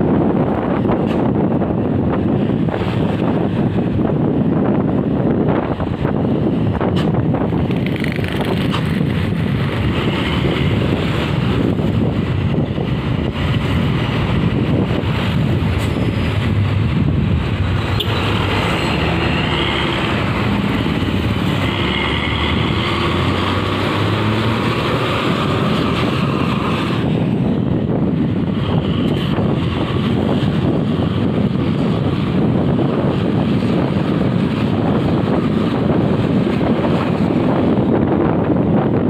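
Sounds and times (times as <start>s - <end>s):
vehicle engines running: 0.0s - 39.0s.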